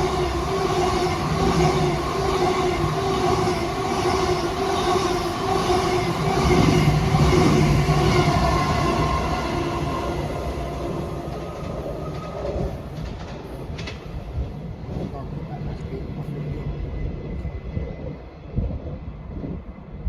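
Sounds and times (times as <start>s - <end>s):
train passing with humming tones: 0.0s - 20.0s
wheels rumbling on rail: 0.0s - 20.0s.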